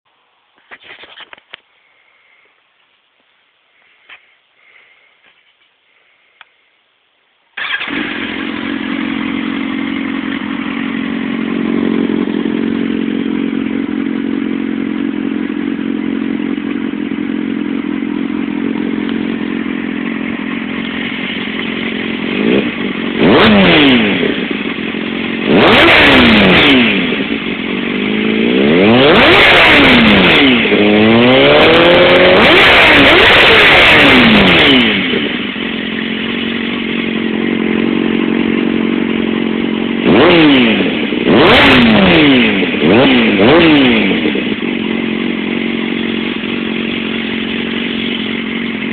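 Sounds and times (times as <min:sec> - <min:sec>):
motorcycle engine idling and revving: 0:07.6 - 0:48.9.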